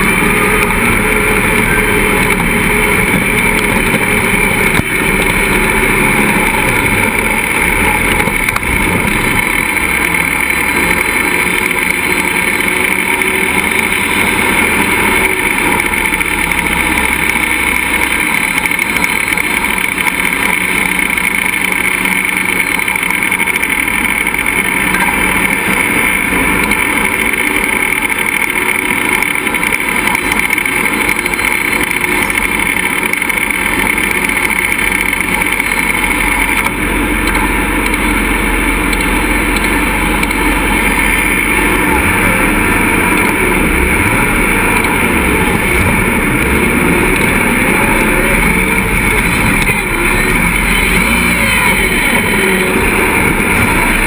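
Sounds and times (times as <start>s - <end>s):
buggy engine running: 0.0s - 54.0s.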